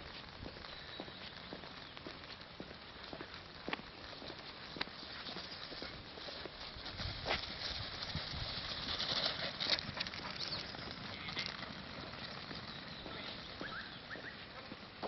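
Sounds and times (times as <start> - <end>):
sheep hooves pattering on asphalt: 0.0 - 15.0.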